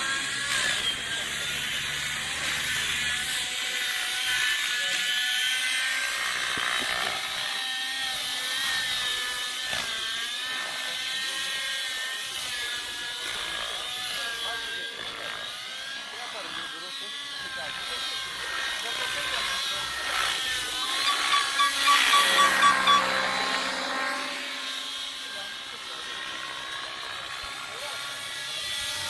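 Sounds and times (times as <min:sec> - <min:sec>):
model helicopter whine: 0:00.0 - 0:29.0.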